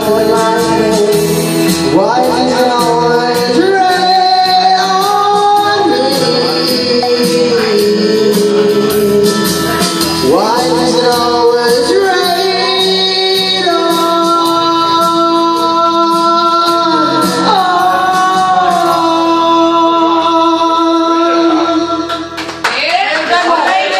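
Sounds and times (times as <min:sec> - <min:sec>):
backing track music: 0:00.0 - 0:23.9.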